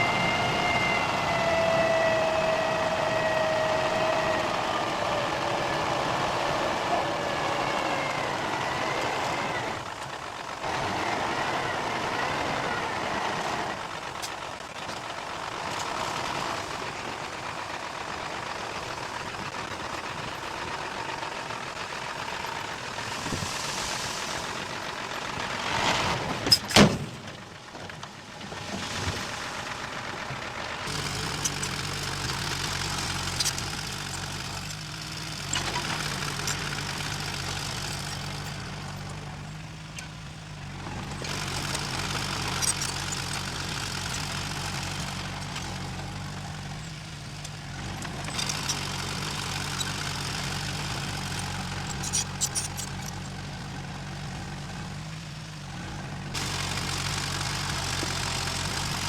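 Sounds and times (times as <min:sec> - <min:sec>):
diesel engine running: 0:00.0 - 0:26.5, 0:27.4 - 0:59.0.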